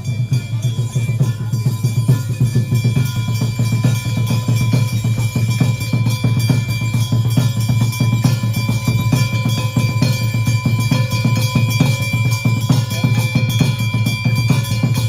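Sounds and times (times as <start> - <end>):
fast drumming: 0.0 - 15.0
steady ringing tone: 0.0 - 15.0.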